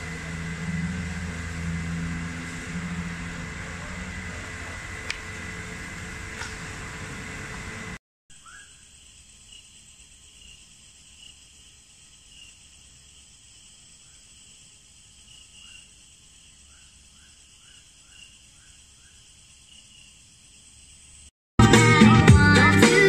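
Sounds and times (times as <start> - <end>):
insects chirping: 0.0 - 21.3.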